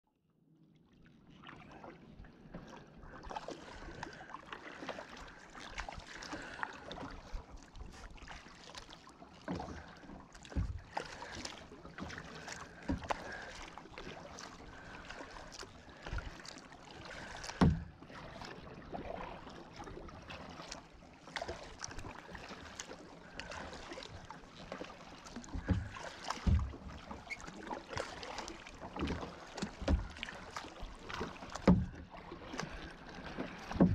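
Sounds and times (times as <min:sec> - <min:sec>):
paddle splashing and dripping: 0:00.8 - 0:33.9.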